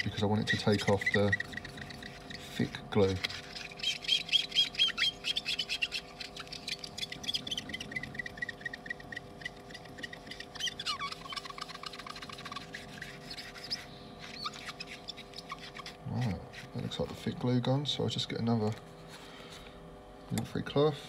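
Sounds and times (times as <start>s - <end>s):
sponge squeaking on glass: 0.0s - 17.0s
steady hum: 0.0s - 21.0s.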